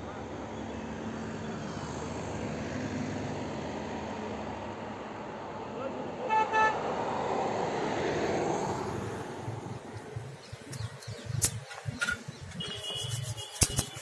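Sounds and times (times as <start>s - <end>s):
traffic noise: 0.0s - 14.0s.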